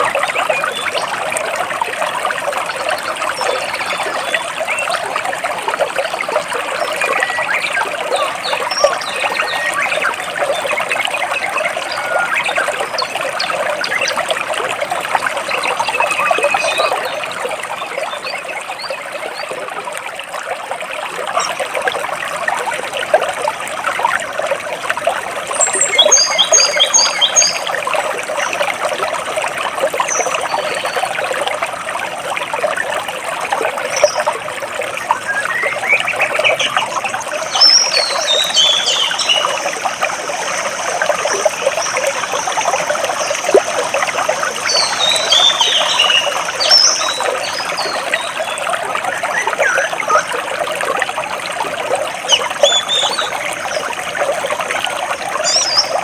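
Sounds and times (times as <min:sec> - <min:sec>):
stream water splashing between rocks: 0:00.0 - 0:56.0.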